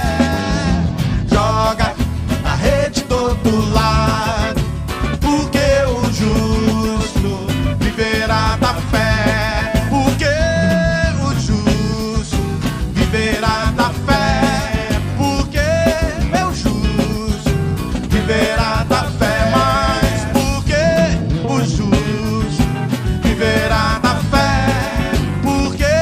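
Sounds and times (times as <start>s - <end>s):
live band playing gospel song: 0.0s - 26.0s.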